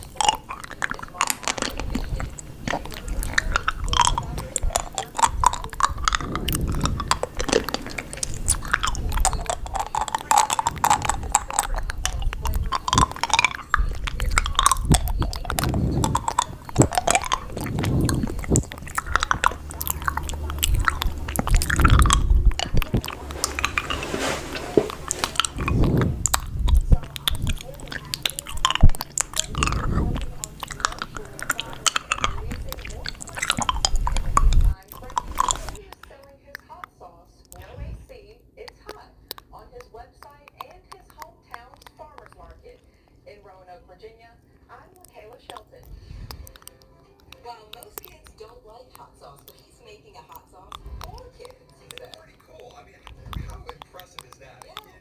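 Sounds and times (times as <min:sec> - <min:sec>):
loud chewing and crunching: 0:00.0 - 0:43.1, 0:43.9 - 0:55.0.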